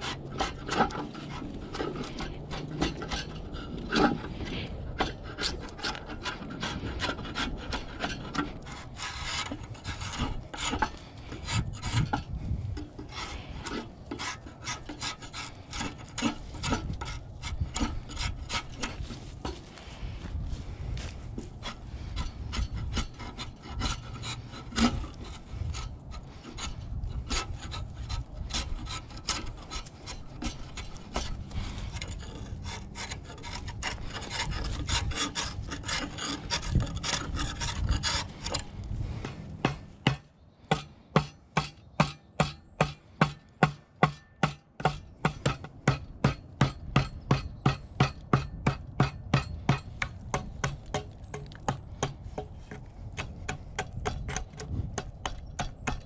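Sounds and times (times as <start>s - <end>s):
draw knife scraping bark: 0.0s - 19.9s, 21.0s - 56.0s.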